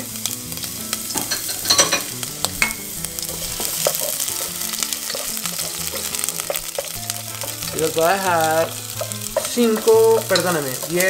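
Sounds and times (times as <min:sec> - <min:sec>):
garlic sizzling in oil: 0:00.0 - 0:11.0
wooden spoon tapping pot: 0:01.2 - 0:02.9, 0:03.8 - 0:11.0.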